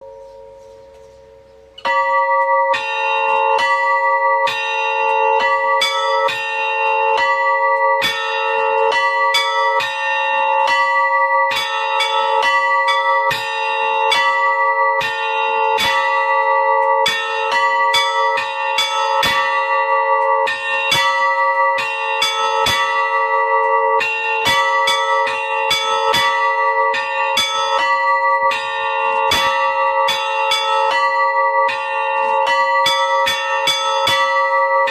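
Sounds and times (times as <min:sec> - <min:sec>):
bells ringing: 0:00.0 - 0:34.9.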